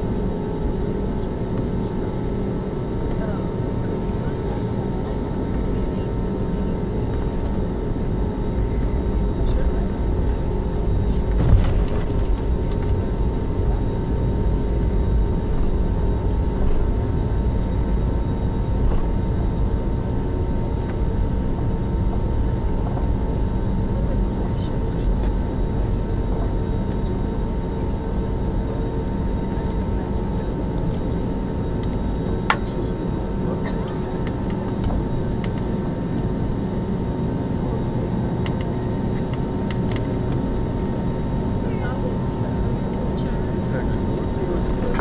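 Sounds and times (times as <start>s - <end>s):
jet engines idling rumble: 0.0s - 45.0s.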